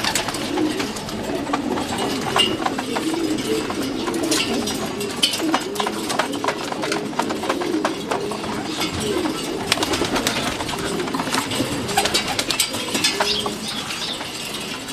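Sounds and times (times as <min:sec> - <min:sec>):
pigeons cooing: 0:00.0 - 0:14.9
sharp clicks and scratches: 0:00.0 - 0:14.9.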